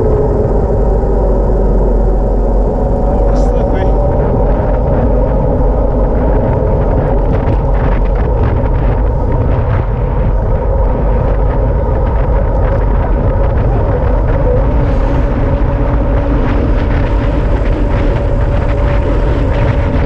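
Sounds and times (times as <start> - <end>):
tyres humming on asphalt: 0.0 - 20.0
wind buffeting microphone: 0.0 - 20.0.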